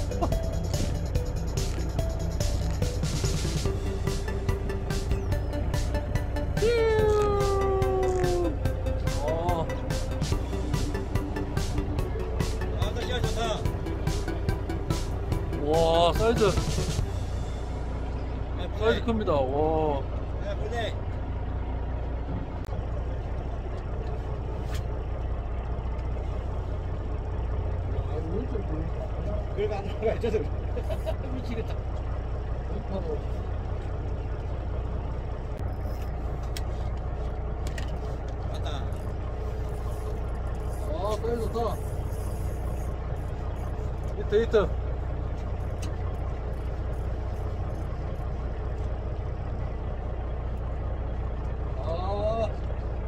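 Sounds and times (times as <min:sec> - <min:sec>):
boat engine idling: 0:00.0 - 0:53.0.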